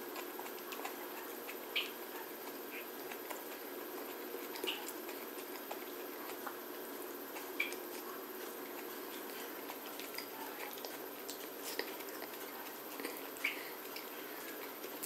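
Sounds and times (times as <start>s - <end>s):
person chewing close up: 0.0s - 15.0s
steady low hum: 0.0s - 15.0s.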